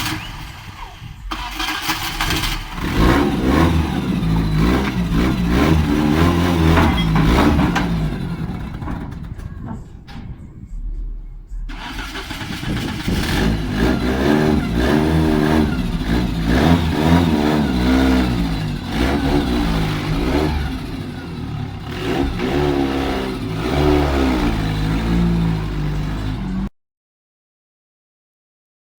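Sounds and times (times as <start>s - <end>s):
car engine revving: 0.0s - 10.0s, 11.7s - 26.7s.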